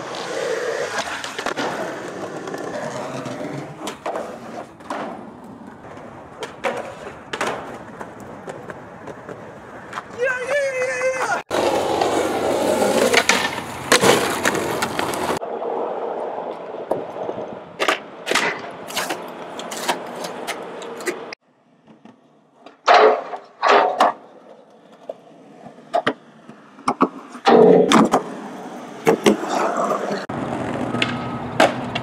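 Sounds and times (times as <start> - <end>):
skateboard clacking on ground: 0.0 - 15.4, 16.5 - 28.4, 29.0 - 32.0
skateboard wheels rolling on pavement: 0.0 - 32.0.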